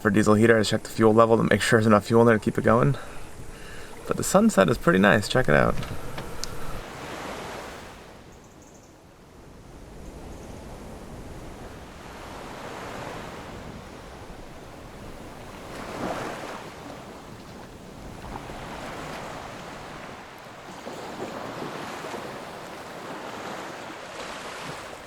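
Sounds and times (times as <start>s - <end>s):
rushing water: 0.0s - 8.2s, 11.1s - 25.0s
wind: 0.0s - 25.0s.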